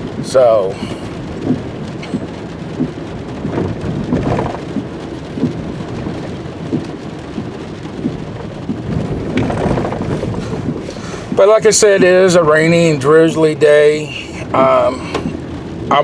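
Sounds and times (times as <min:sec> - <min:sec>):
raindrops ticking: 0:00.0 - 0:16.0
road and rain rumble inside car: 0:00.0 - 0:16.0.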